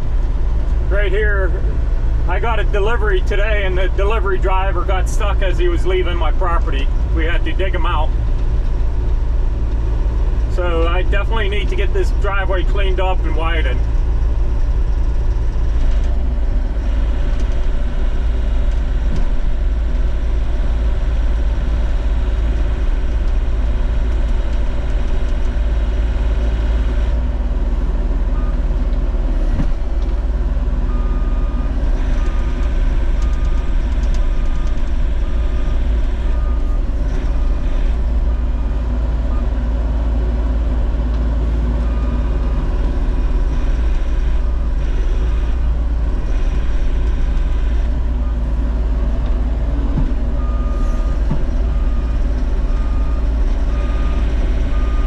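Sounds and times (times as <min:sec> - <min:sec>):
excavator diesel engine rumble: 0:00.0 - 0:55.0.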